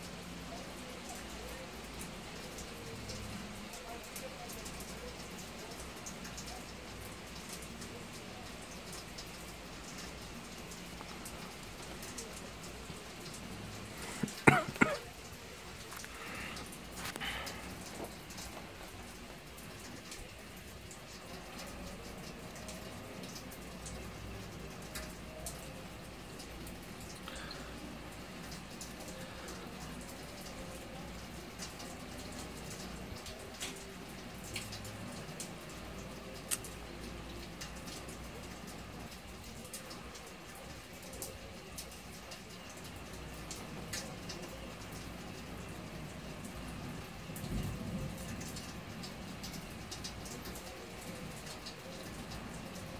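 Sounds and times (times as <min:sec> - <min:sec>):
rain drops ticking close: 0:00.0 - 0:52.9
steady rain: 0:00.0 - 0:52.9.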